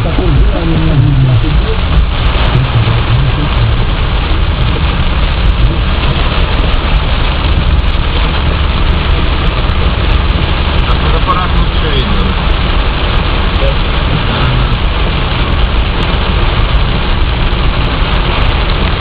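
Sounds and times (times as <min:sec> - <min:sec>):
deep continuous rumble: 0:00.0 - 0:19.0
rain hissing: 0:00.0 - 0:19.0.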